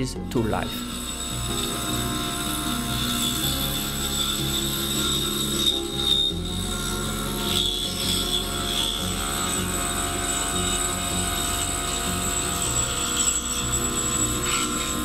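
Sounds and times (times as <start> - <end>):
background music: 0.0 - 15.0
milling cutter machining metal: 0.3 - 15.0.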